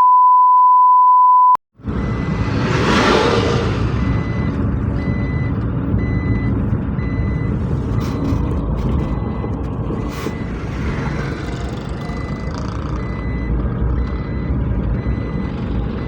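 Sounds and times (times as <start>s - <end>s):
reversing alarm beeping: 0.0s - 16.0s
heavy diesel vehicle running: 1.8s - 16.0s.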